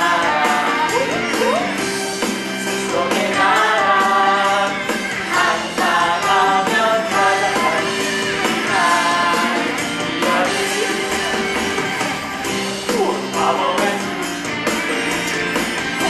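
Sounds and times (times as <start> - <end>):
voices singing: 0.0 - 14.4
instrumental accompaniment: 0.0 - 16.0.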